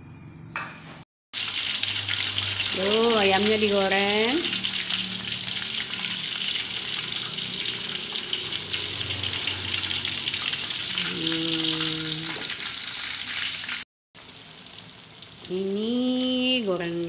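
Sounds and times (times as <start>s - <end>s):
chicken deep-frying in oil: 1.4s - 17.0s.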